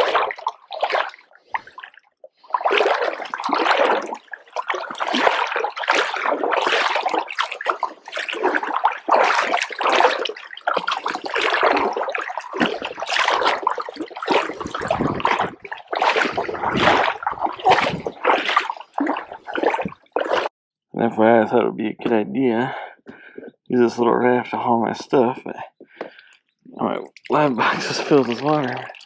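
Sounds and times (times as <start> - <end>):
water splashing and sloshing: 0.0 - 20.5, 25.8 - 29.0.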